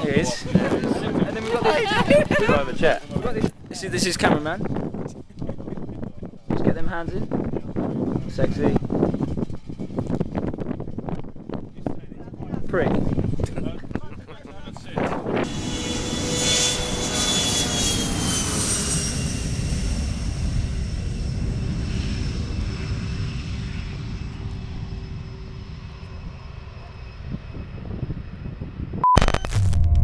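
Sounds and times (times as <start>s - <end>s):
jet engines whining: 0.0s - 29.0s
low rumble: 0.1s - 30.0s.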